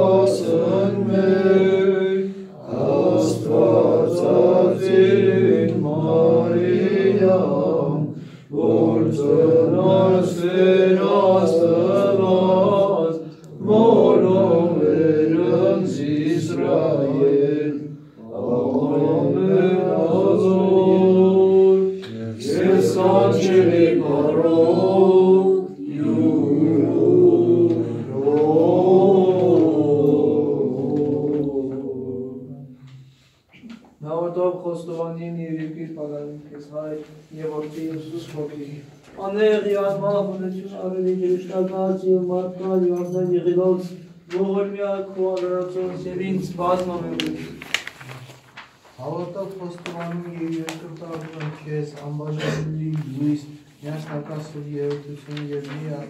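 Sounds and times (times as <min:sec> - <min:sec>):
slow sung church chant: 0:00.0 - 0:56.0.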